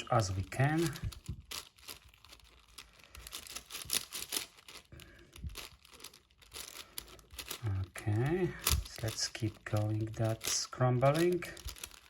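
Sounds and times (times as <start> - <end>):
puzzle cube clicking and clacking: 0.0 - 12.0.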